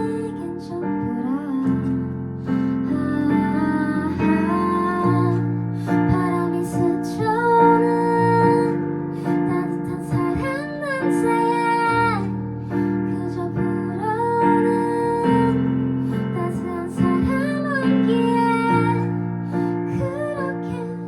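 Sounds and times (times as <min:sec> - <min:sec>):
woman singing slow melody: 0:00.0 - 0:21.0.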